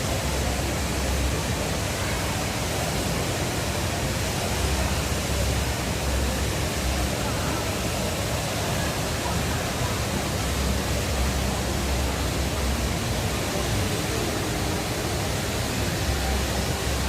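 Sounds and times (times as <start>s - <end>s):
indoor waterfall rushing: 0.0s - 17.0s.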